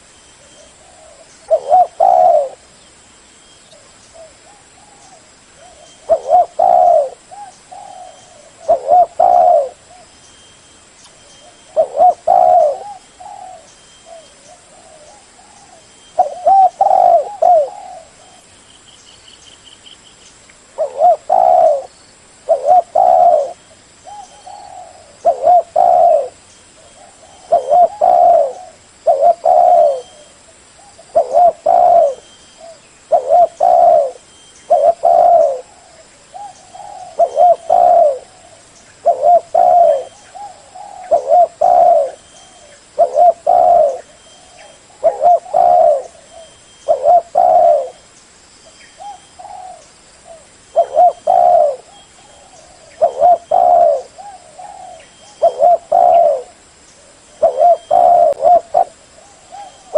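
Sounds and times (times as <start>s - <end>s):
dove cooing: 0.0s - 2.7s, 4.1s - 10.1s, 11.4s - 18.5s, 20.8s - 48.0s, 49.0s - 59.9s.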